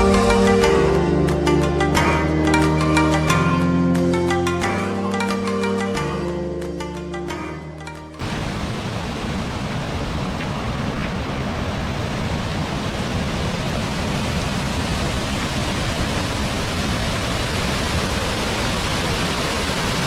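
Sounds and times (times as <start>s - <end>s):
waterfall rushing: 0.0s - 6.3s, 8.2s - 20.0s.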